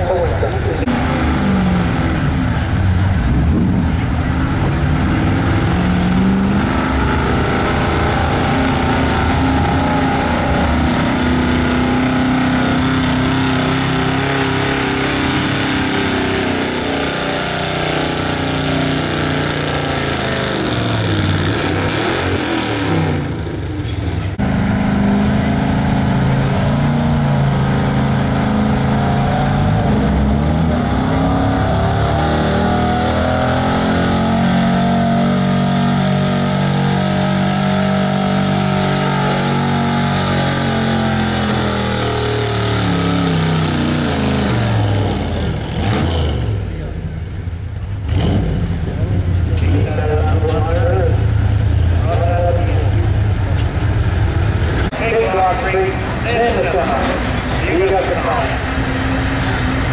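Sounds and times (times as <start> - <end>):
truck engine running under load: 0.0 - 59.9.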